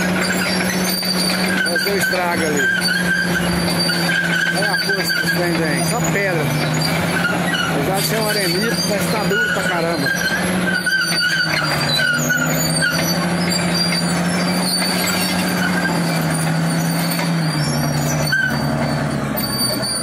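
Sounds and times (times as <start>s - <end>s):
bulldozer diesel engine under load: 0.0s - 20.0s
high metallic squeals: 0.0s - 20.0s.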